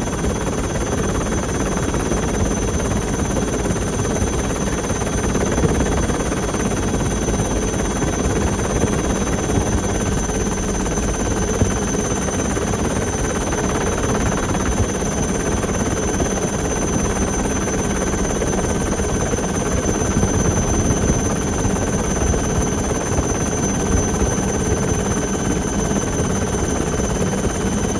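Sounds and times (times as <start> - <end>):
helicopter turbine and rotor din: 0.0 - 27.9.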